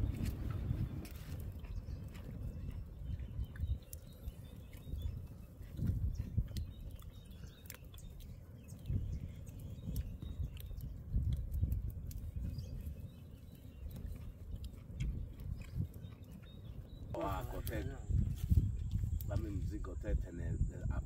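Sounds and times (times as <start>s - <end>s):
campfire crackling and popping: 0.0s - 20.2s.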